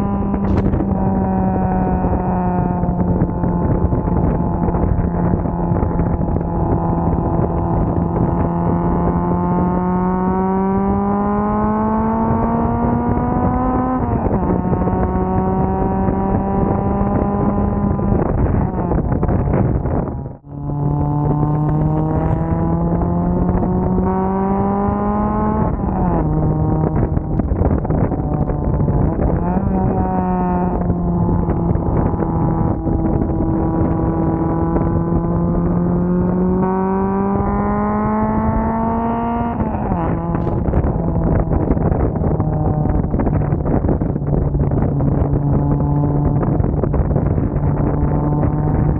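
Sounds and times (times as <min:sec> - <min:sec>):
car engine revving under load: 0:00.0 - 0:48.9.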